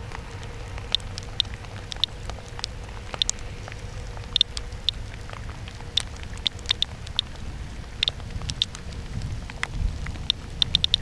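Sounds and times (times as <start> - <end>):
geiger counter clicking: 0.0 - 3.4, 4.0 - 8.9, 9.5 - 11.0
low rumble: 0.0 - 11.0.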